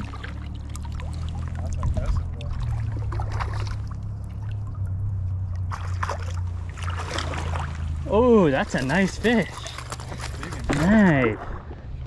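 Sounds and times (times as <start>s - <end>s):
steady low rumble: 0.0s - 12.0s
water splashing: 0.0s - 12.0s.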